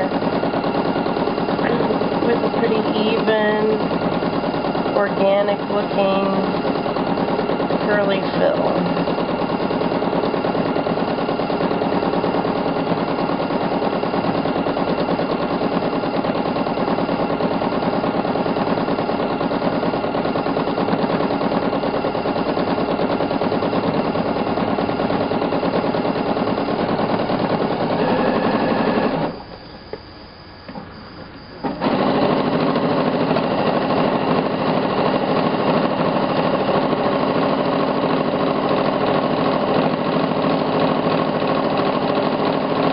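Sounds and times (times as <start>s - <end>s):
sewing machine stitching: 0.0s - 29.5s, 31.6s - 42.9s.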